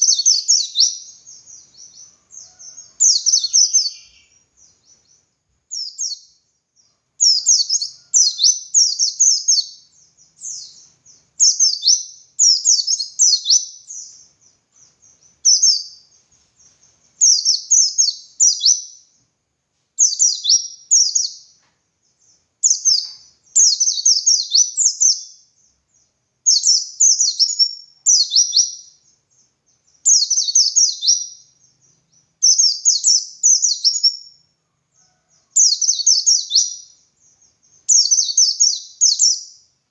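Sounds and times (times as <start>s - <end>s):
bird singing rapid bursts: 0.0s - 19.2s, 20.0s - 34.4s, 35.6s - 39.8s.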